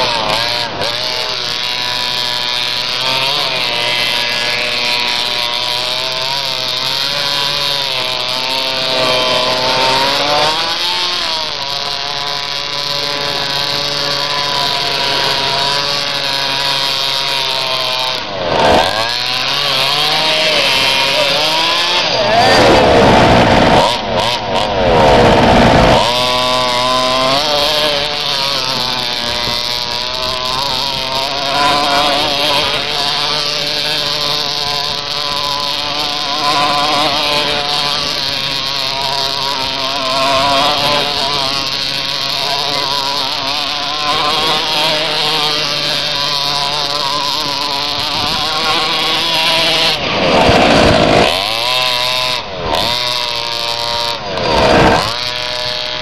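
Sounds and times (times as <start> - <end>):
small two-stroke engine buzzing: 0.0 - 56.0.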